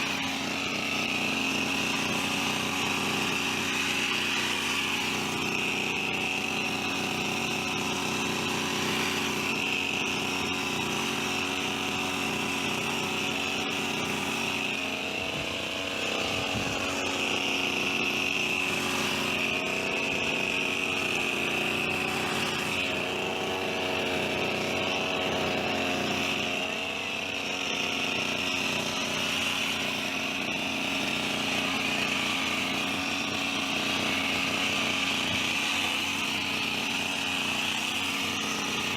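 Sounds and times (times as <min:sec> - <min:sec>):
hedge trimmer engine running: 0:00.0 - 0:38.9.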